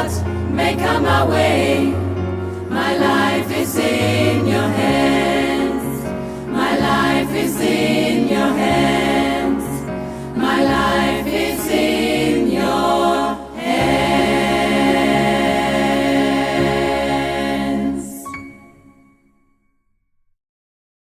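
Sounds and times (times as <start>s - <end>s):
gospel choir singing: 0.0s - 19.0s.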